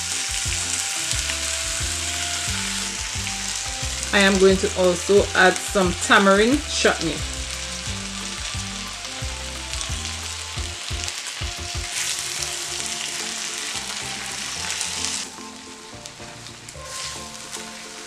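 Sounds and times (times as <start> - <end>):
meat sizzling in a skillet: 0.0 - 18.0.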